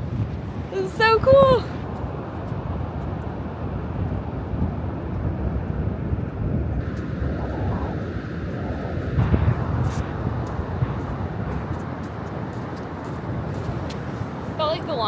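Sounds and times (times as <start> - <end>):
ocean surf: 0.0 - 4.5, 6.8 - 15.0
wind buffeting microphone: 0.0 - 15.0.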